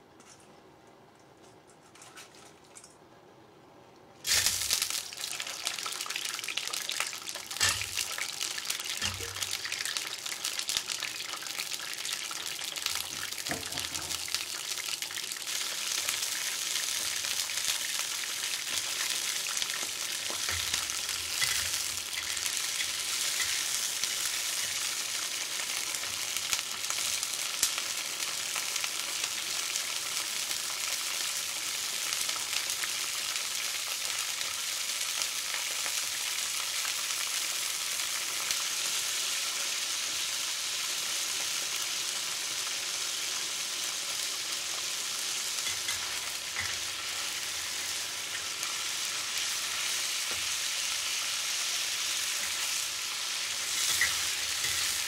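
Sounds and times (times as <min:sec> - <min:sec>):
crawfish sizzling in hot oil: 0:04.2 - 0:55.0.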